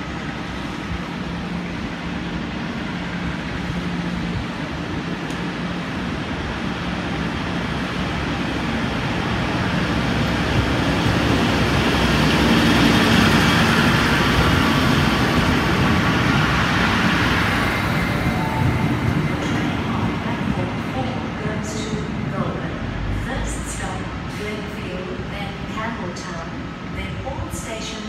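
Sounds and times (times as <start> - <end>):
diesel engines humming: 0.0 - 26.8.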